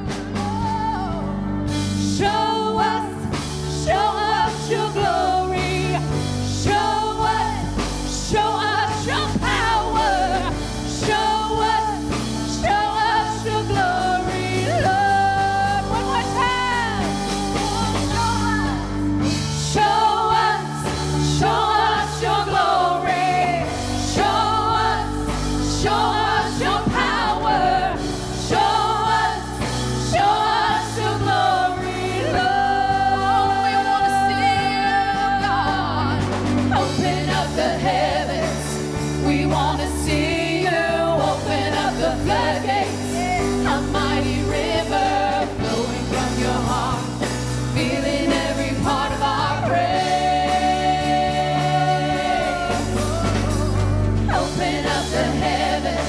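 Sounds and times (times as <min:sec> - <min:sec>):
steady drum beat: 0:00.0 - 0:56.0.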